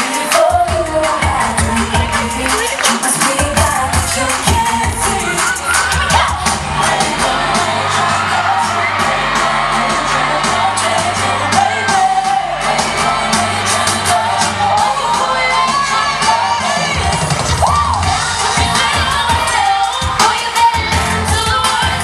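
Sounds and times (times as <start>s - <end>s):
women singing pop song: 0.0s - 22.0s
bass notes: 0.6s - 20.2s.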